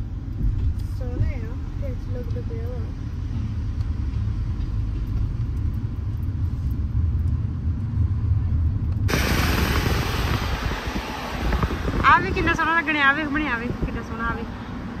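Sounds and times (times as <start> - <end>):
car engine and tyres rumbling: 0.0 - 15.0
wind and road noise: 0.0 - 15.0.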